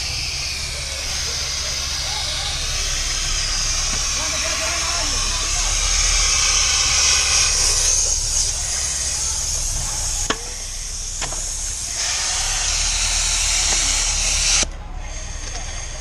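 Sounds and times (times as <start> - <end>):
fire hose spraying water: 0.0 - 16.0.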